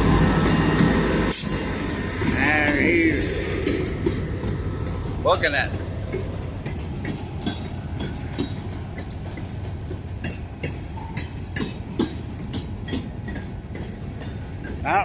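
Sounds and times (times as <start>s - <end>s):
train wheels rumbling on rail: 0.0s - 15.0s
wheels and couplings clanking: 0.0s - 15.0s.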